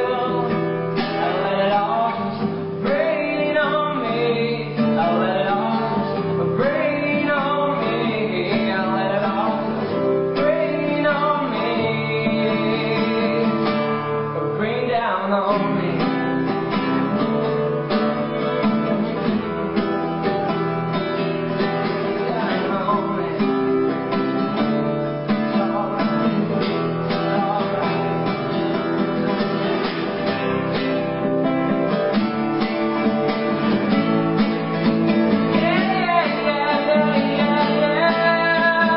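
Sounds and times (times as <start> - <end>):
guitar strumming: 0.0 - 38.9
instrumental guitar music: 0.0 - 38.9.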